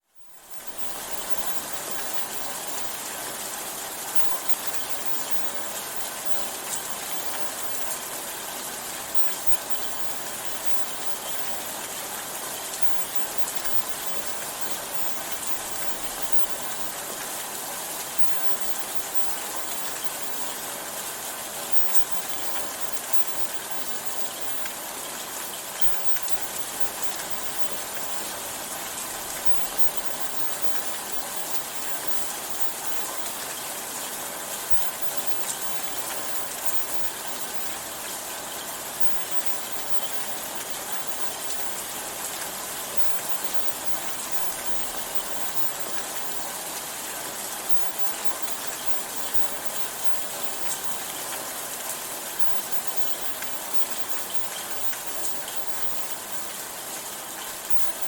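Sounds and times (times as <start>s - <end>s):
steady rain: 0.0s - 58.0s
faint raindrop ticks: 0.1s - 58.0s.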